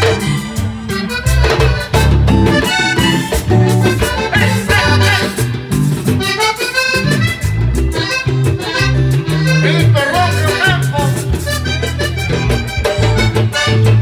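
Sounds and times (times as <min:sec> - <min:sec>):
button accordion: 0:00.0 - 0:14.0
deep bass notes: 0:00.0 - 0:14.0
hand-drum beat: 0:00.0 - 0:14.0.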